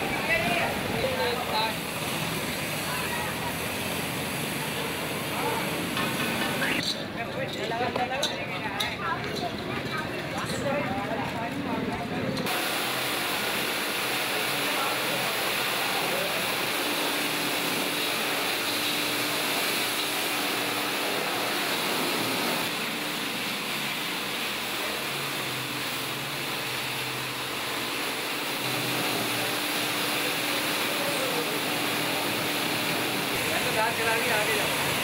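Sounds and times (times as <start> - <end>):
water hoses spraying: 0.0 - 6.9, 12.4 - 35.0.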